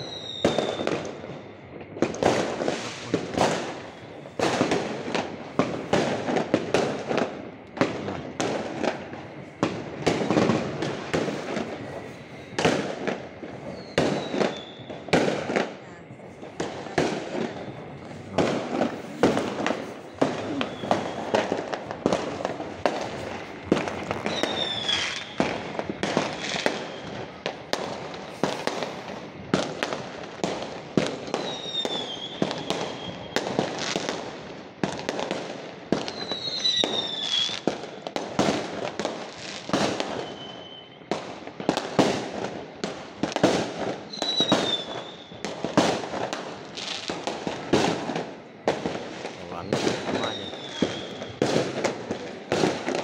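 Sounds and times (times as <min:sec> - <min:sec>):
falling firework whistles: 0:00.0 - 0:53.0
fireworks bangs and pops: 0:00.0 - 0:53.0.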